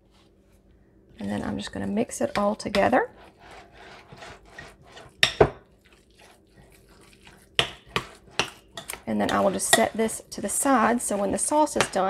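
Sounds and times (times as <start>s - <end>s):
utensil scraping glass bowl: 1.2s - 12.0s.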